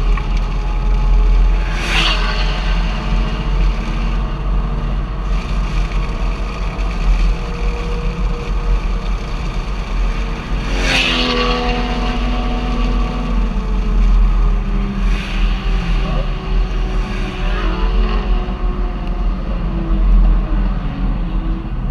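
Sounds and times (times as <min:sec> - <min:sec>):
vehicle engine running: 0:00.0 - 0:20.3.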